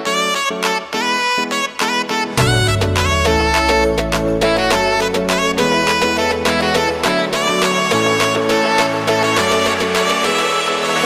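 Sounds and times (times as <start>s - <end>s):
background music with repeated notes: 0.0s - 11.0s.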